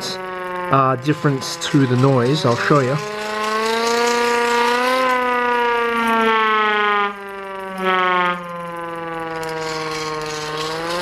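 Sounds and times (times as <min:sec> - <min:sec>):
hand-cranked siren wailing: 0:00.0 - 0:11.0.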